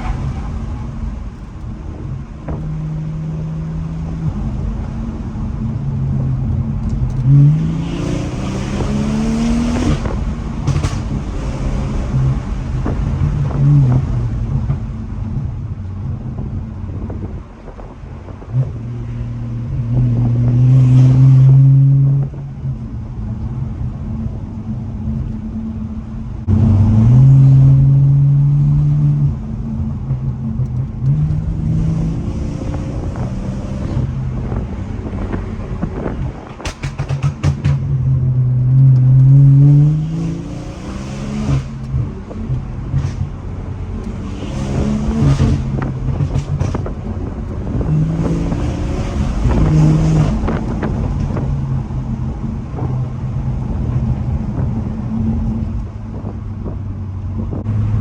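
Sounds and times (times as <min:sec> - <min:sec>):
car engine revving hard: 0:00.0 - 0:15.0, 0:18.6 - 0:22.4, 0:26.4 - 0:29.6, 0:30.8 - 0:56.8.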